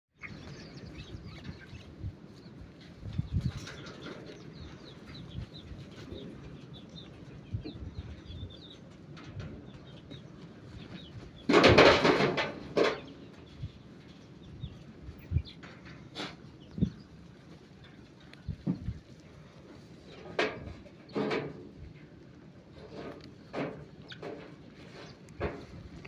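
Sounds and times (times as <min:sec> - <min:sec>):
birds chirping: 0:00.2 - 0:21.3, 0:23.3 - 0:26.0.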